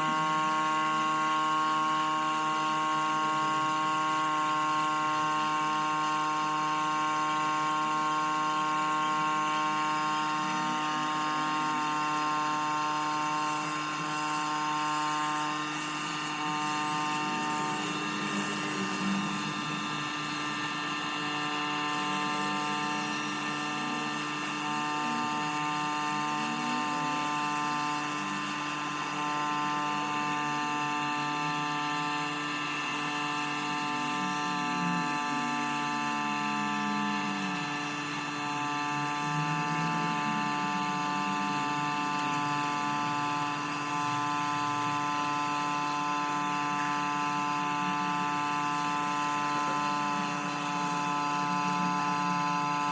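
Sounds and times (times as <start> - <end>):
small motor whining: 0.0 - 52.9.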